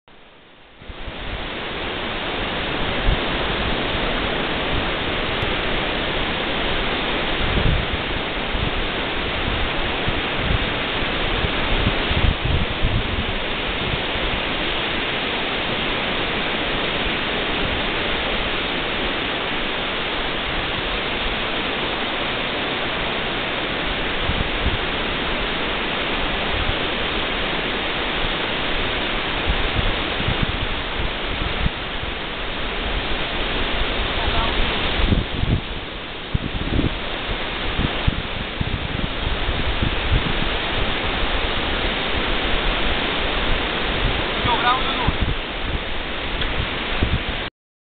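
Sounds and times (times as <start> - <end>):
surf breaking on beach: 0.7 - 47.5
wind buffeting microphone: 0.8 - 47.5.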